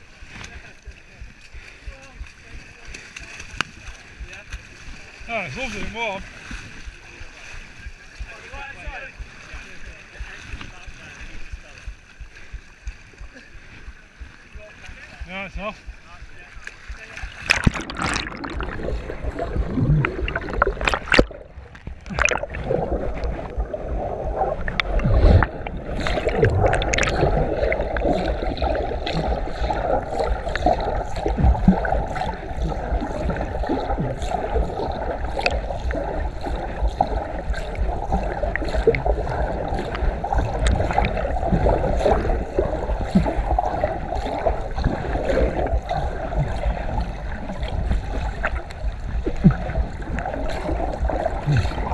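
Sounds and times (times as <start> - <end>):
water sloshing around wading person: 0.0 - 51.9.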